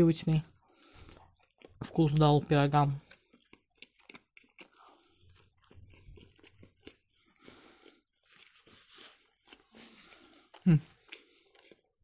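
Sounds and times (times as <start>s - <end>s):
chewing with mouth clicks: 0.2s - 12.0s.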